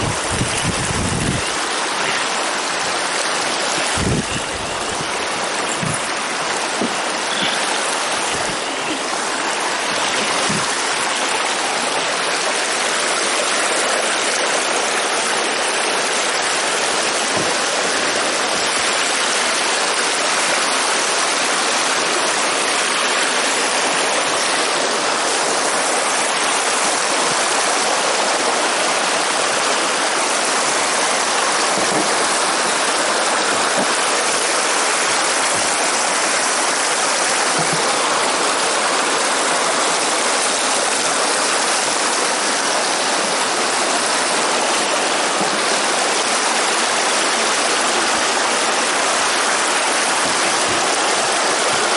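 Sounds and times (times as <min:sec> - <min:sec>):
water rushing over a dam: 0:00.0 - 0:51.9.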